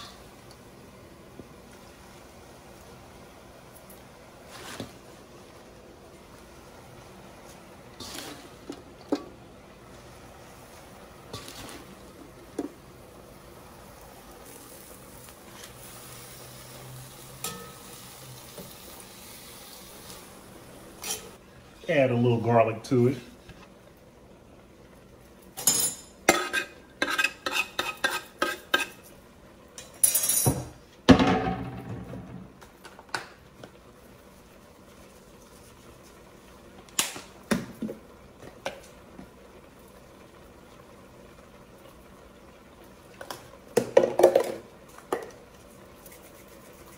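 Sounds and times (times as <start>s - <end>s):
greens sizzling in broth: 0.0s - 31.1s, 32.5s - 46.9s.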